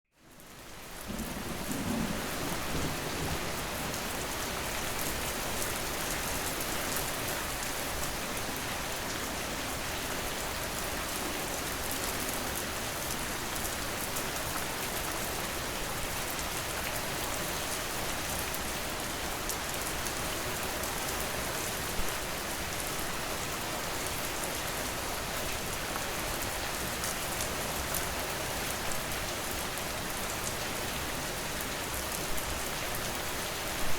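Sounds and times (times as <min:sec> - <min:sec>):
steady rain falling: 0:00.2 - 0:33.9.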